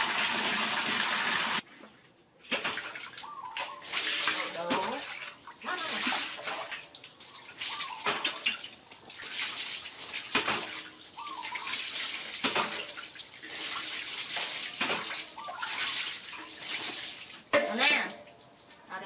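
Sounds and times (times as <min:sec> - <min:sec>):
water splashing on concrete: 0:02.4 - 0:19.0.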